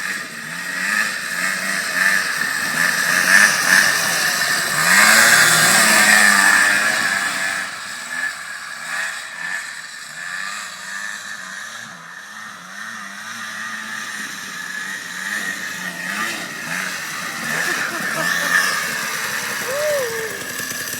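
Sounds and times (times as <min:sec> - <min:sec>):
buggy engine revving: 0:00.0 - 0:20.9.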